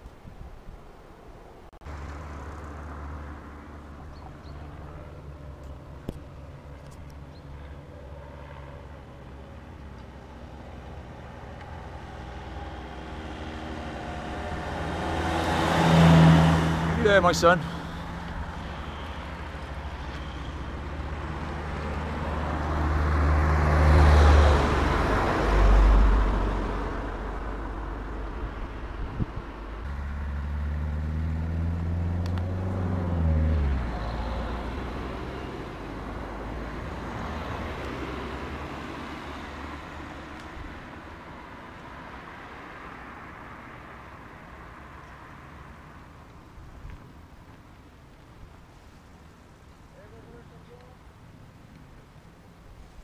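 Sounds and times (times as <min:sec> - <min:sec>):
cars passing: 0:01.0 - 0:53.0.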